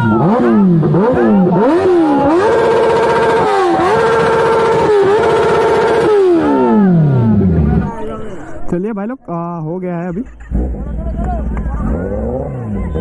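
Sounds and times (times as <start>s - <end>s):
motorcycle engine revving: 0.0s - 8.0s, 10.4s - 13.0s.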